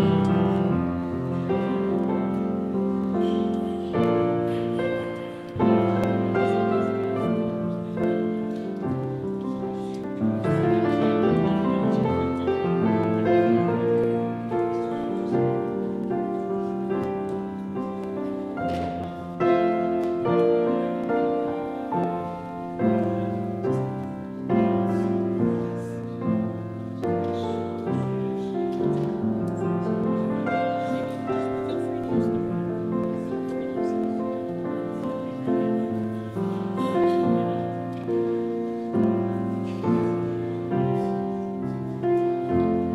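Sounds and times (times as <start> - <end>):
slow keyboard music: 0.0 - 42.9.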